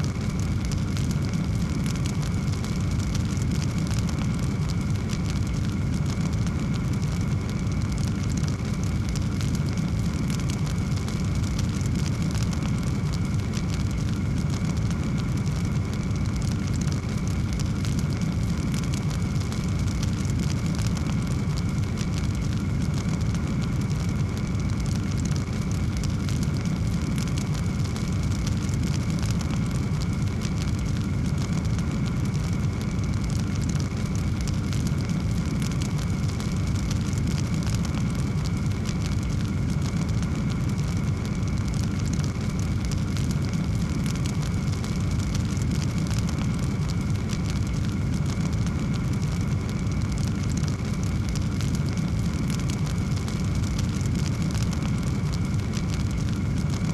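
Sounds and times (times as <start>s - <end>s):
fire crackling and popping: 0.0s - 56.9s
fire roaring: 0.0s - 56.9s.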